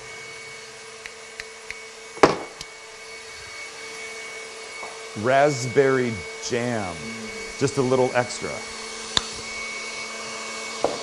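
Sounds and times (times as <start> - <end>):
stand mixer motor whine: 0.0 - 11.0.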